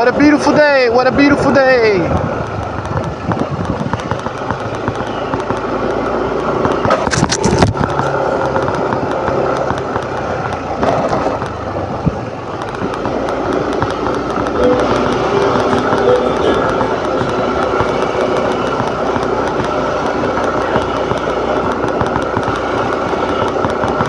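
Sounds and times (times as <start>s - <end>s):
crackling rattles on microphone: 0.0s - 24.0s
scooter engine hum: 0.3s - 24.0s.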